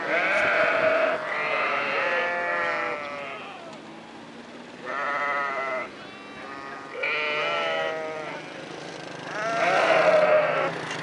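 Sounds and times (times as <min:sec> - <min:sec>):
sheep bleating: 0:00.0 - 0:03.7, 0:04.8 - 0:08.6, 0:09.3 - 0:10.7.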